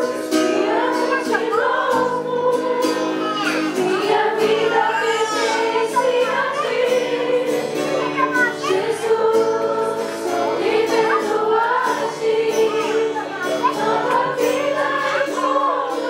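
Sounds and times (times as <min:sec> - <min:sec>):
group singing worship song: 0:00.0 - 0:16.0
instrumental accompaniment: 0:00.0 - 0:16.0.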